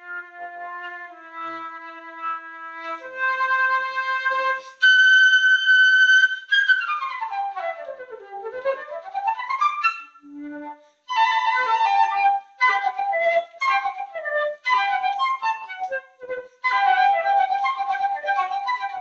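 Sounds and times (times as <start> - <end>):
concert flute playing: 0.0 - 19.0.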